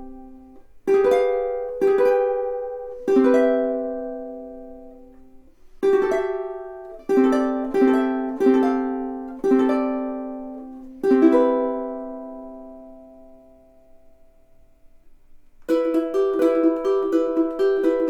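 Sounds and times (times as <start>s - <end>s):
ukulele strumming chords: 0.0s - 14.8s, 15.6s - 18.0s.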